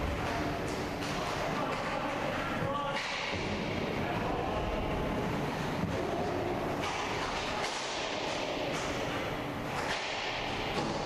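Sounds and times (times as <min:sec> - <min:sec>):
skate wheels rumbling on floor: 0:00.0 - 0:11.0.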